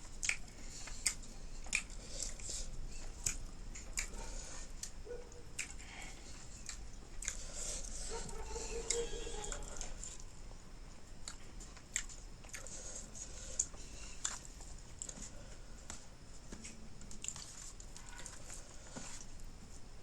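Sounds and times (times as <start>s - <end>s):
person chewing food: 0.0s - 19.8s.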